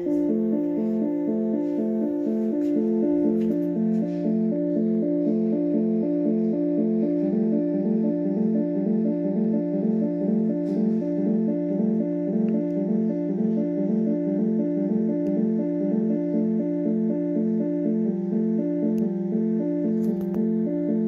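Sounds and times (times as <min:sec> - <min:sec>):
electronic keyboard siren imitation: 0:00.0 - 0:21.0.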